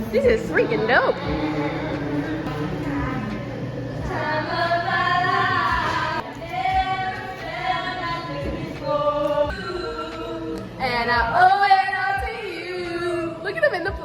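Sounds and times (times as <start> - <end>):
background music: 0.0 - 14.0
woman singing: 0.0 - 14.0.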